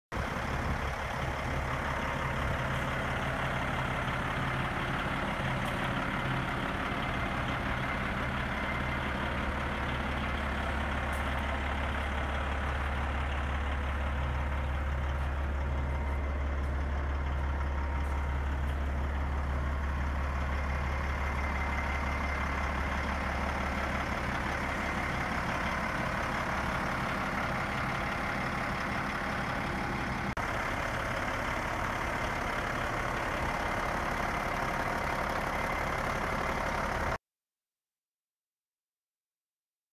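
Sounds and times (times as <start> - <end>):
diesel engine idling: 0.1 - 37.2.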